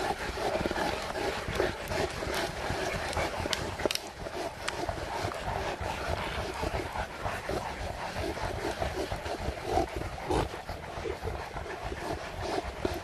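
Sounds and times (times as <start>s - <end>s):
dog sounds: 0.0s - 13.0s.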